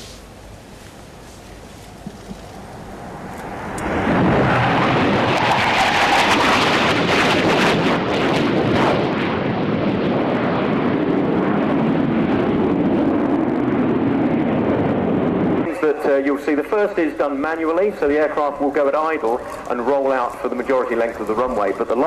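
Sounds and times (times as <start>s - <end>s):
jet engines passing: 0.0s - 22.0s.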